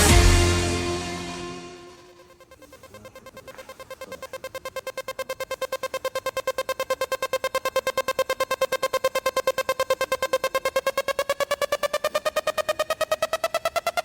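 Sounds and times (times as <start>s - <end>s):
pulsing synth tone: 0.0s - 14.0s.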